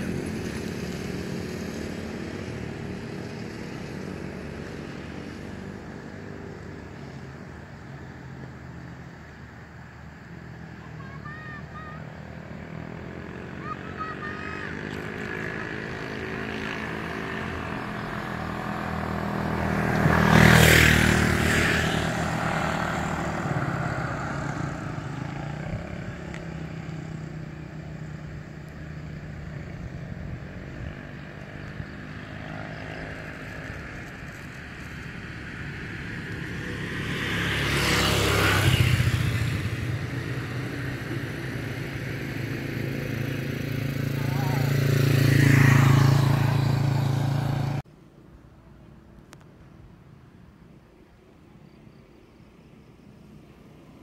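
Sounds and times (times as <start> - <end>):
low traffic engine hum: 0.0 - 54.0
vehicles passing by: 0.0 - 54.0.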